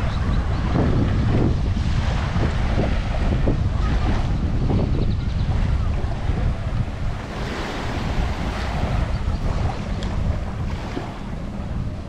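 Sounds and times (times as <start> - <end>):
small waves on beach: 0.0 - 12.0
wind buffeting microphone: 0.0 - 12.0.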